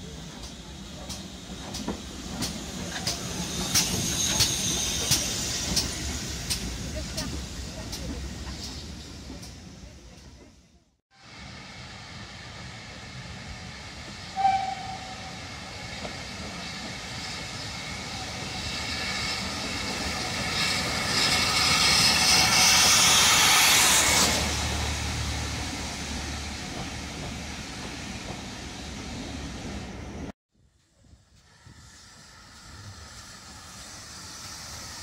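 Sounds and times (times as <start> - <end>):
steam locomotive hissing exhaust: 0.0 - 9.4, 11.2 - 30.0, 31.0 - 35.0
train carriages rumbling on track: 0.0 - 10.8, 13.0 - 30.3.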